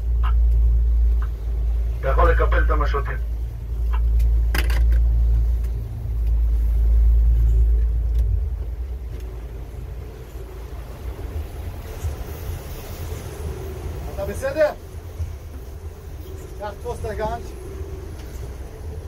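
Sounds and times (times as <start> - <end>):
boat motor rumbling: 0.0 - 19.0.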